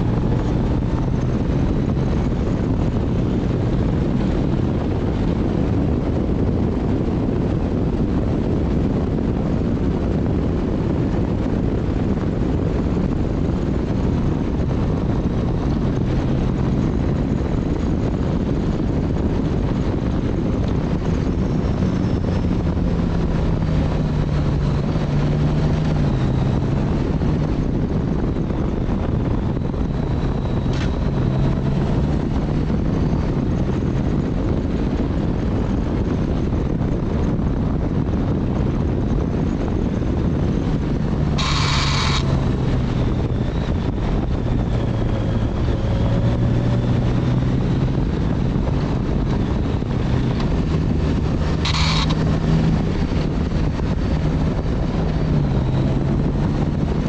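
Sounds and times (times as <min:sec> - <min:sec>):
motorcycle engine hum: 0:00.0 - 0:57.0
wind rush: 0:00.0 - 0:57.0.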